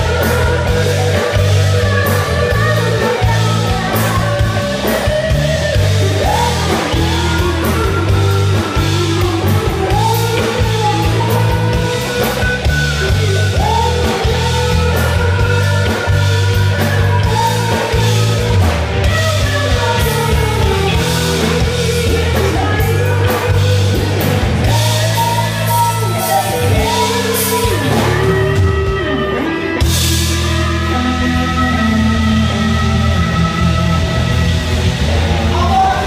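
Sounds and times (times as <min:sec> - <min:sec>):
woman singing: 0:00.0 - 0:34.4
live rock band: 0:00.0 - 0:36.0.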